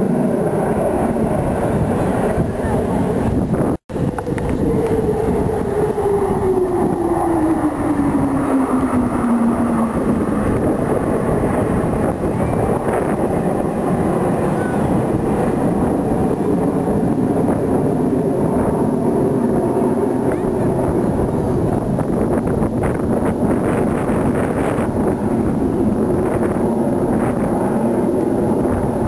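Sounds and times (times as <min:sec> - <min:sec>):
jets roaring overhead: 0:00.0 - 0:29.0.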